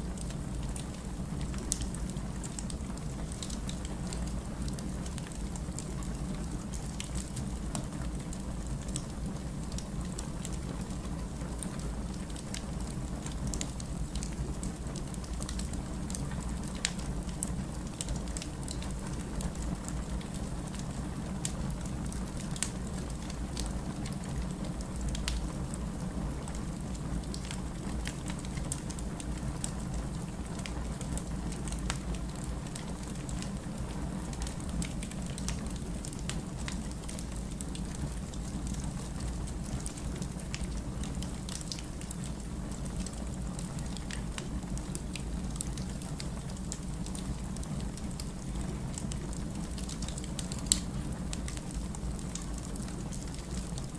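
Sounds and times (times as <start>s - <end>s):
firewood burning with crackles: 0.0s - 53.9s.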